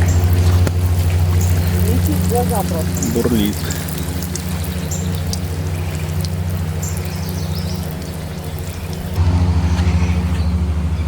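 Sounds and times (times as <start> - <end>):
food frying in bubbling oil: 0.0 - 9.2
low engine-like hum: 0.0 - 11.0.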